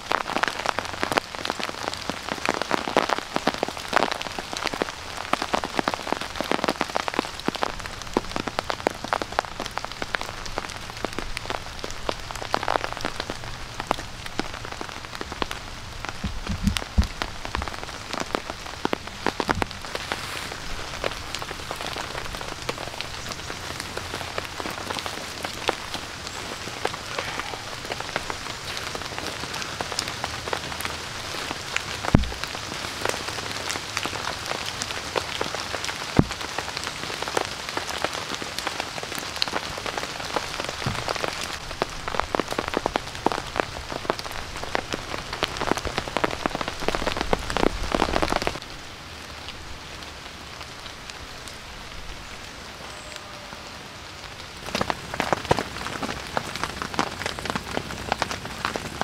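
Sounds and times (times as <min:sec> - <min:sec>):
rain pattering on a tarp: 0:00.0 - 0:59.0.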